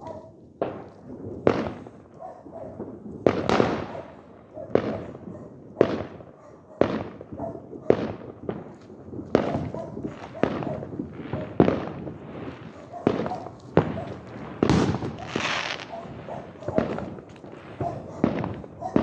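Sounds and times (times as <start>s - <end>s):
firework bangs echoing: 0.0s - 19.0s.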